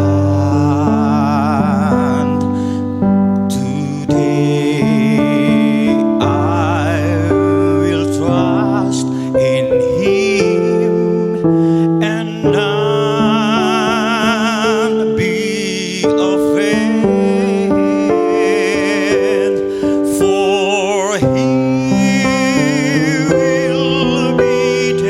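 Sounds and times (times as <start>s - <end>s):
electric keyboard chords: 0.0s - 25.0s
person singing with vibrato: 0.0s - 25.0s.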